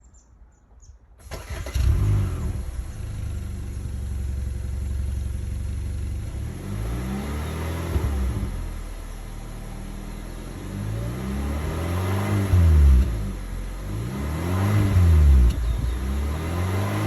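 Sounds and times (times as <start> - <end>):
car engine starting and idling: 1.2 - 17.0.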